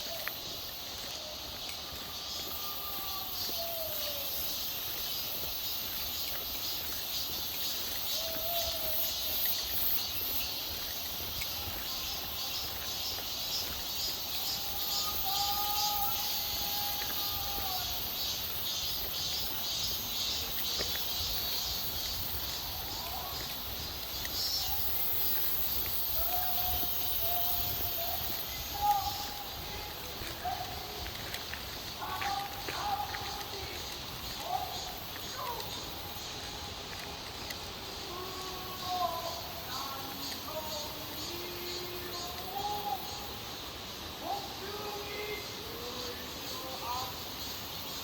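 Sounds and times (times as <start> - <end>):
mountain stream rushing: 0.0 - 48.0.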